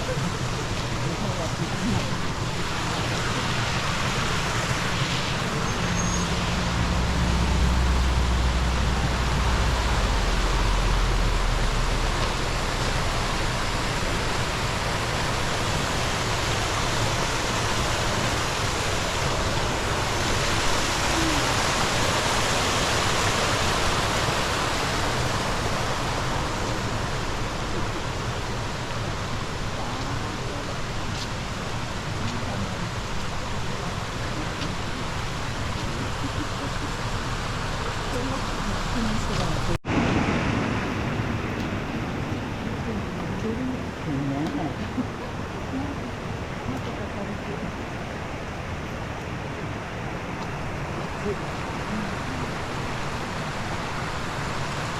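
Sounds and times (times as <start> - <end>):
low rumble: 0.0 - 49.2
stream rushing over rocks: 0.0 - 54.9.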